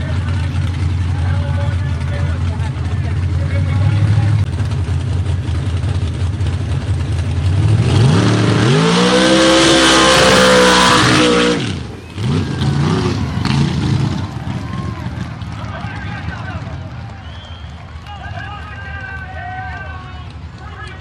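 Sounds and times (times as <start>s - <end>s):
truck engine rumbling and revving: 0.0s - 21.0s.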